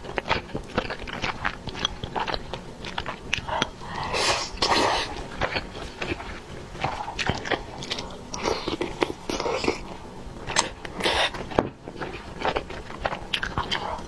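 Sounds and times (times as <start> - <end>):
person chewing and biting food: 0.0 - 14.0.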